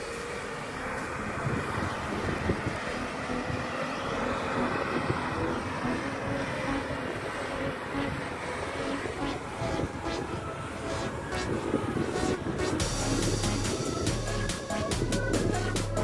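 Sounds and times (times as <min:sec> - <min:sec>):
car engine under load: 0:00.0 - 0:16.0
steady noisy rush: 0:00.0 - 0:16.0.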